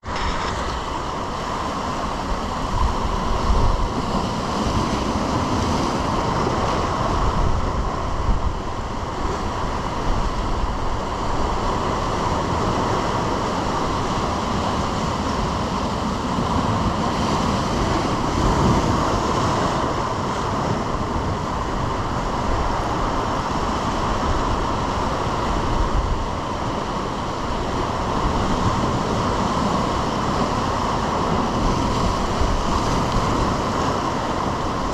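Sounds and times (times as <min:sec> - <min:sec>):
ocean surf on rocky shore: 0:00.0 - 0:34.9
wind gusting on microphone: 0:00.0 - 0:34.9.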